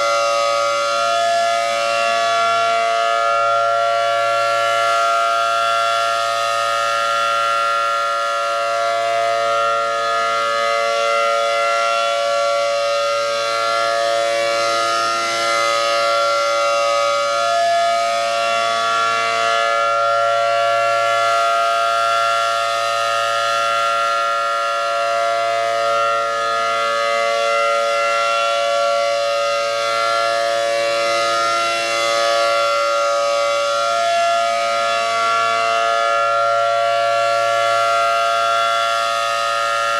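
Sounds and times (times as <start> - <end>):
warning siren chord: 0.0 - 39.9.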